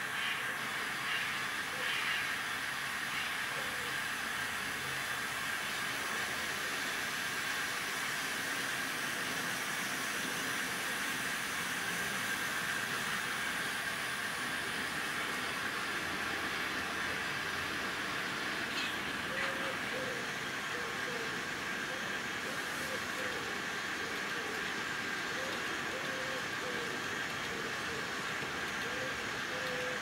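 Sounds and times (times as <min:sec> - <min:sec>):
faint model steam locomotive: 0:00.0 - 0:30.0
model train whirring on track: 0:00.0 - 0:30.0.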